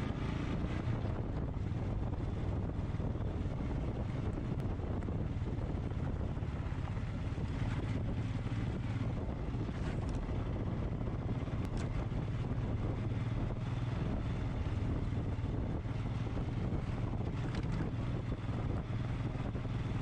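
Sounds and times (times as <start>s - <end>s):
motorcycle engine running: 0.0s - 20.0s
wind on microphone: 0.0s - 20.0s.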